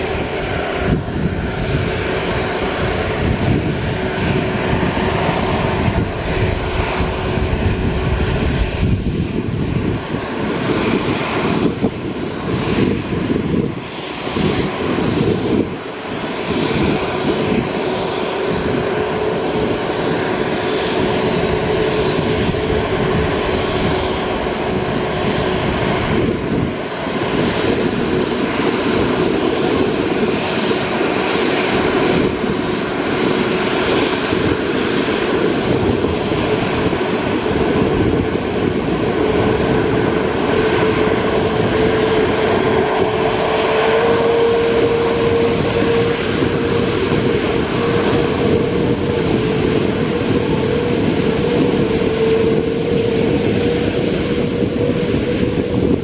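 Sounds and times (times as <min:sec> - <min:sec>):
jet engine rumble and whine: 0:00.0 - 0:56.0.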